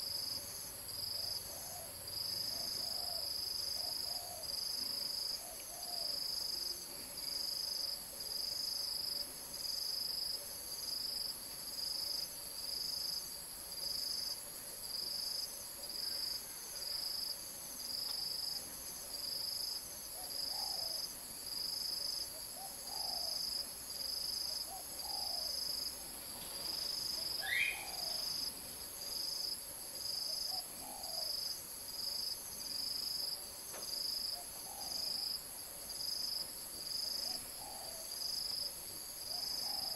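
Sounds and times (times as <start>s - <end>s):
high insect whine: 0.0s - 39.9s.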